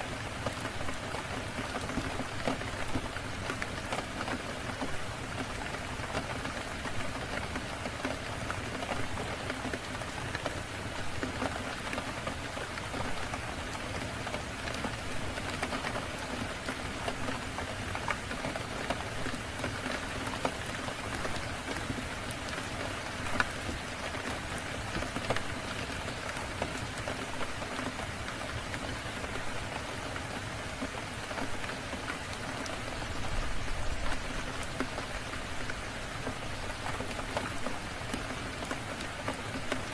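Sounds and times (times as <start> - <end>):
steady rain falling: 0.0 - 39.9
raindrops ticking: 0.1 - 39.9.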